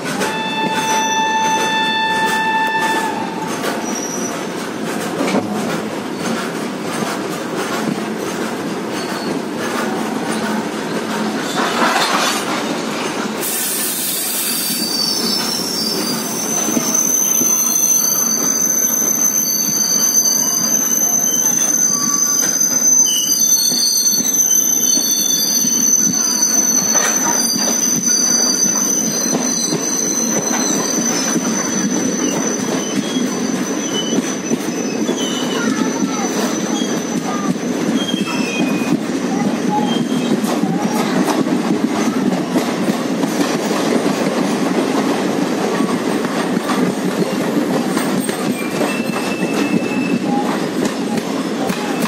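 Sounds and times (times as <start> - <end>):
train running rumble: 0.0 - 52.0
train wheels squealing on rails: 0.0 - 52.0.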